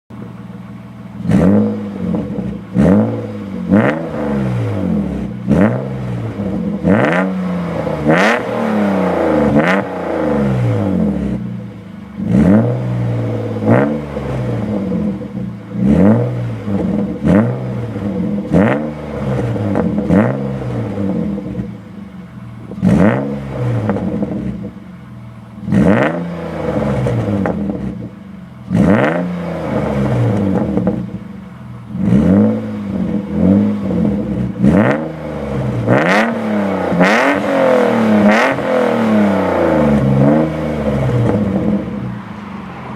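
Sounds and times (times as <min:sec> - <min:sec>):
car engine revving: 0:00.1 - 0:42.9.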